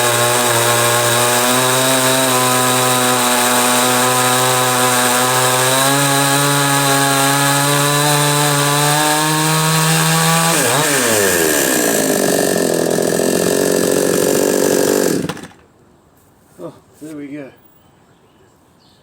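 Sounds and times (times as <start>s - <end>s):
chainsaw revving high: 0.0s - 15.6s.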